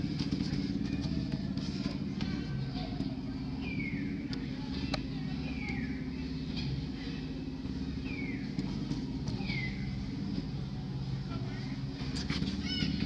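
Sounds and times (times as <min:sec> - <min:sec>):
low engine-like drone: 0:00.0 - 0:13.0.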